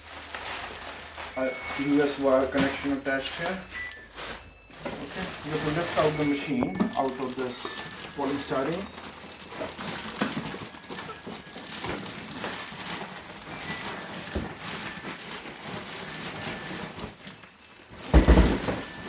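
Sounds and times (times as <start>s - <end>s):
polystyrene scraping and squeaking: 0.0s - 19.0s.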